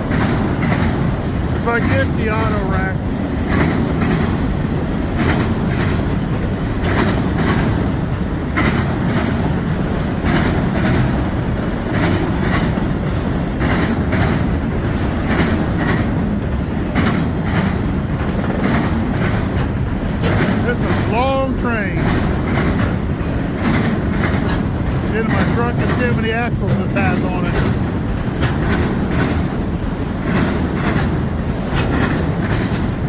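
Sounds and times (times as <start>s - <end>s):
steel wheels rumbling on rail: 0.0s - 33.0s
wheels clacking over rail joints: 0.0s - 33.0s.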